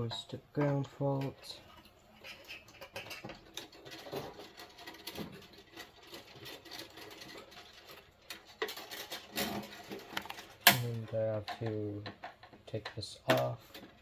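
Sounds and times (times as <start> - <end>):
wires and small parts rattling: 0.0 - 14.0.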